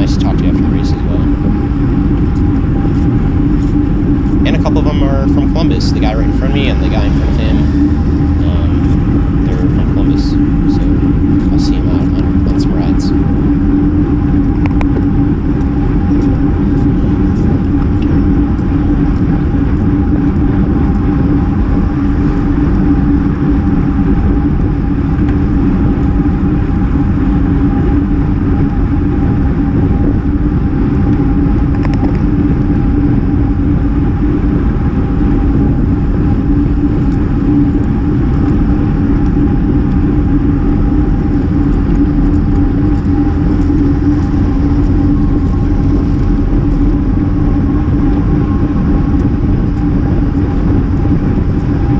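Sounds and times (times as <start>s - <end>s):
constant hum: 0.0s - 51.9s
wind rushing over microphone: 0.0s - 51.9s.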